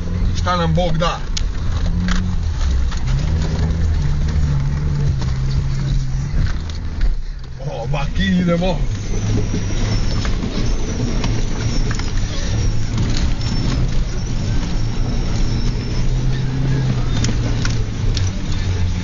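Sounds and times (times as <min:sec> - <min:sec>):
car engine pulling under load: 0:00.0 - 0:19.0
car knocks and rattles: 0:01.0 - 0:19.0.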